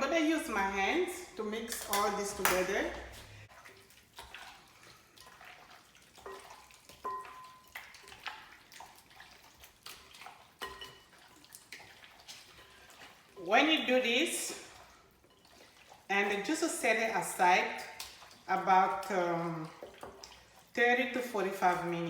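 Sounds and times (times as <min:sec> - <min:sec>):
wet squelches of mixing chicken: 0:00.0 - 0:22.0.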